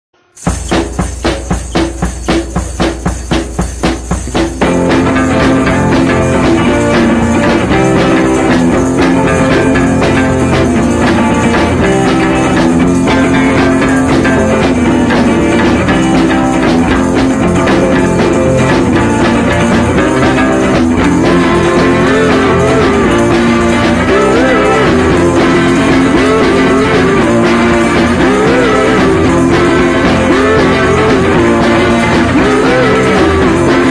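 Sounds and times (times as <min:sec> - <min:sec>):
rock music with guitar and drums: 0:00.4 - 0:33.9.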